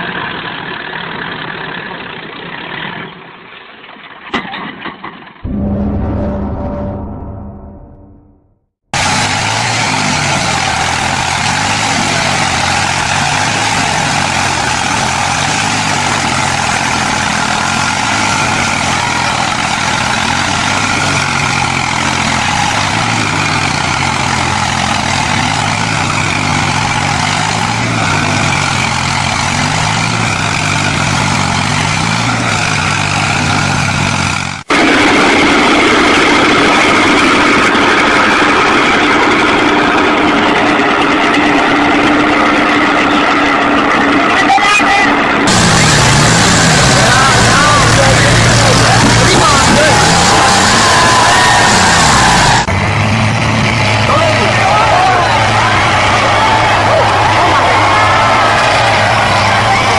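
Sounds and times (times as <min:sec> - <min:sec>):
heavy engine running: 0:00.0 - 0:59.9
higher-pitched engine running: 0:09.0 - 0:59.9.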